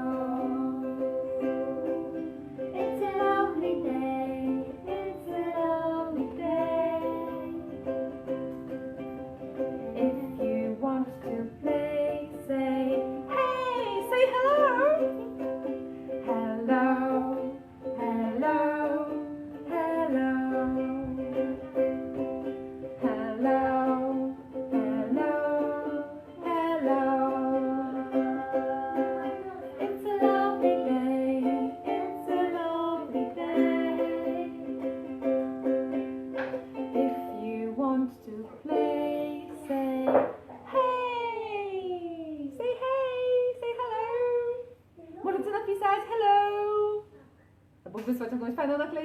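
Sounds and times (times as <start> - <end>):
woman singing: 0.0 - 8.0, 9.8 - 15.3, 16.2 - 35.3, 36.8 - 47.1
strummed string instrument: 0.0 - 40.6.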